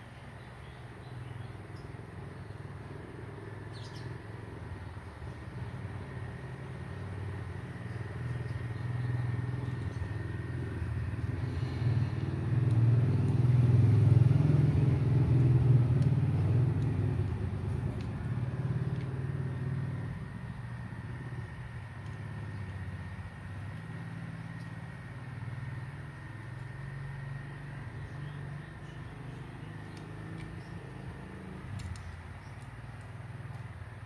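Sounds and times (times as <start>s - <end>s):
vehicle engine passing by: 0.8s - 34.0s.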